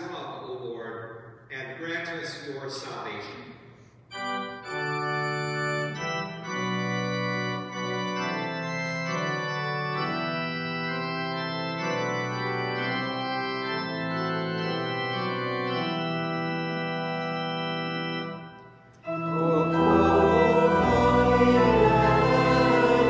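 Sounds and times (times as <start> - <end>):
church organ chords: 4.1 - 23.0.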